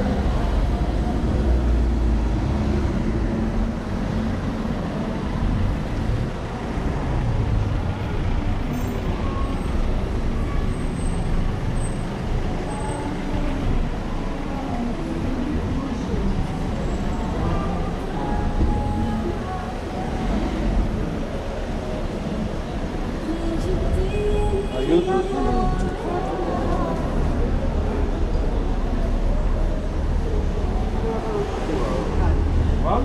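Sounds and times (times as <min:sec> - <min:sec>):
cars and vans passing: 0:00.0 - 0:33.0.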